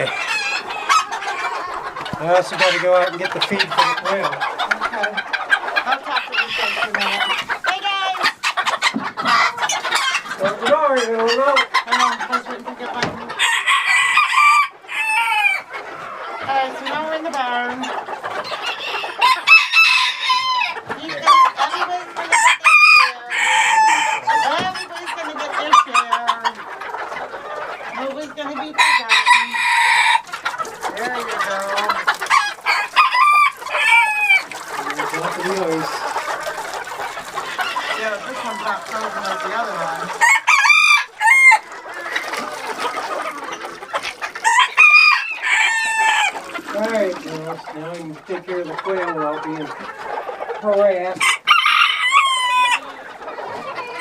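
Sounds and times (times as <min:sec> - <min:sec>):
roosters crowing: 0:00.0 - 0:10.3, 0:13.0 - 0:16.7, 0:18.4 - 0:26.6, 0:28.1 - 0:47.9, 0:51.0 - 0:54.0
chickens clucking: 0:00.0 - 0:54.0.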